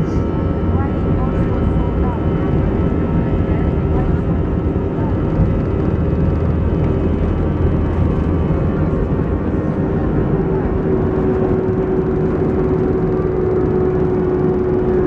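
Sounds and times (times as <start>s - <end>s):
jet engines at take-off thrust: 0.0s - 15.0s
runway rumble: 0.0s - 15.0s
steady engine whine: 0.0s - 15.0s.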